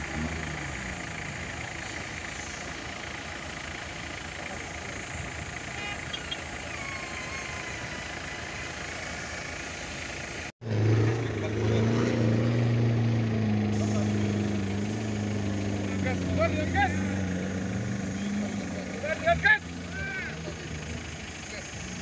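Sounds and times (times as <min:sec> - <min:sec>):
engine running at low revs: 0:00.0 - 0:22.0
steady outdoor noise: 0:00.0 - 0:22.0.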